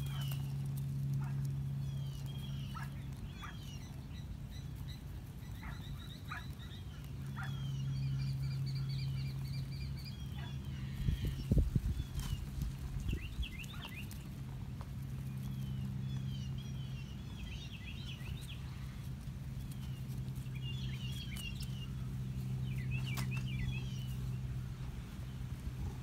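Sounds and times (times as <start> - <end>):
low hum: 0.0 - 26.0
low rumbling: 0.0 - 26.0.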